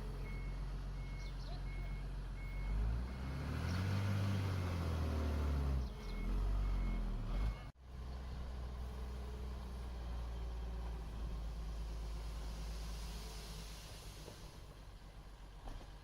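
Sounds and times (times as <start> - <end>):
diesel engine revving: 0.0 - 14.9.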